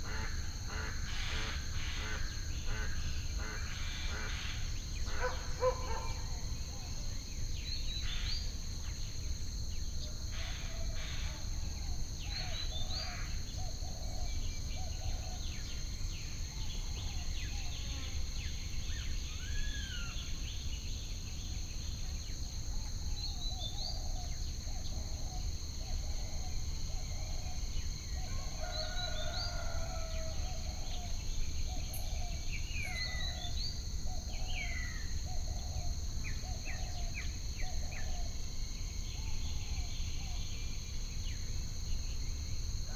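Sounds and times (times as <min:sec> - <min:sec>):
insect drone: 0:00.0 - 0:42.9.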